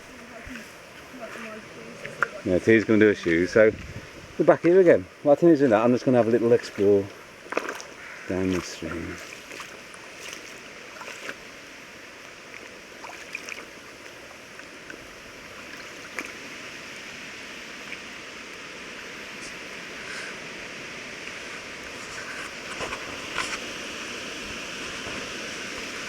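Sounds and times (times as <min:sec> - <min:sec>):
stream running: 0:00.0 - 0:26.0.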